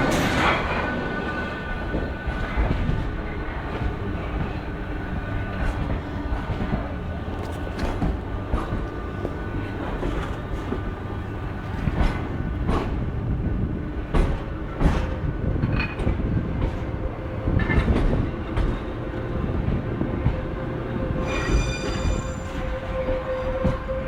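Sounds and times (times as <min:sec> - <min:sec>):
train rumbling on tracks: 0:00.0 - 0:24.0.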